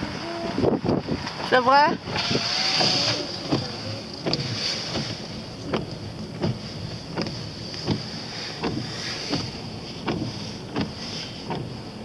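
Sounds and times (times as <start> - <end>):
road and engine hum: 0.0 - 12.0.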